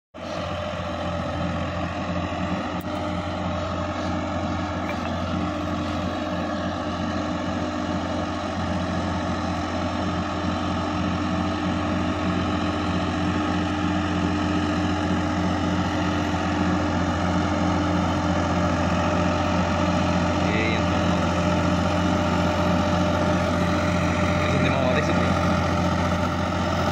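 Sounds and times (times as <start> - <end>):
tractor diesel engine running: 0.2 - 26.9.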